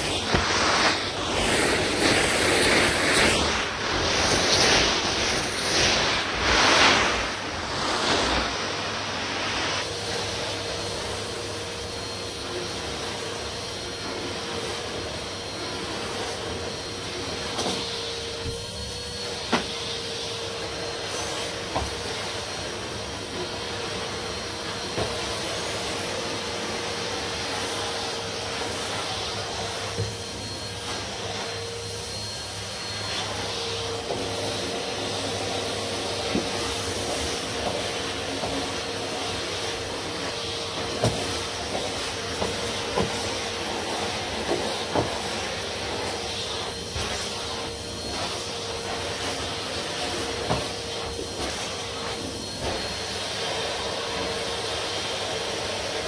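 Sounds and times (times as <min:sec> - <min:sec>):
vacuum cleaner suction: 0:00.0 - 0:56.0.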